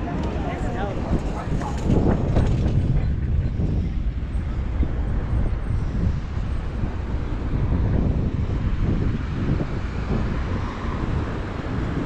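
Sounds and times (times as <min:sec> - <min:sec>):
city traffic noise: 0:00.0 - 0:12.0
wind buffeting microphone: 0:00.0 - 0:12.0.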